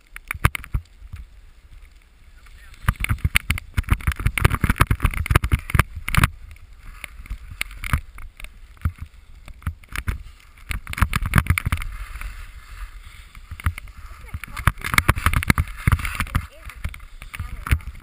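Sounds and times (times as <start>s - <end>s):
skis scraping over snow: 0.0s - 18.0s
wind rumbling on microphone: 0.0s - 18.0s.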